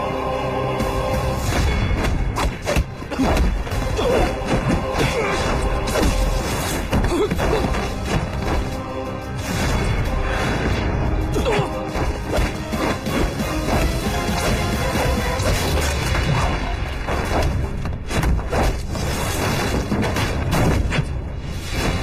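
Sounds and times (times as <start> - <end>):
dramatic fight music: 0.0 - 22.0.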